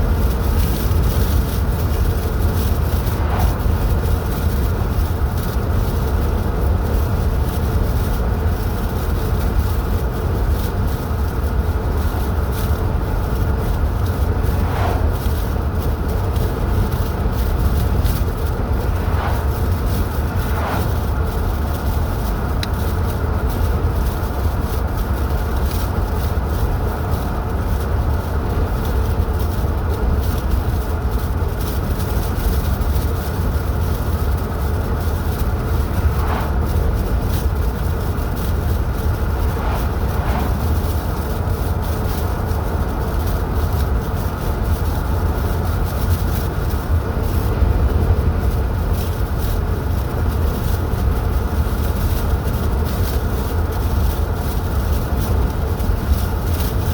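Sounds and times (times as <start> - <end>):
car driving on highway rumble: 0.0 - 56.9.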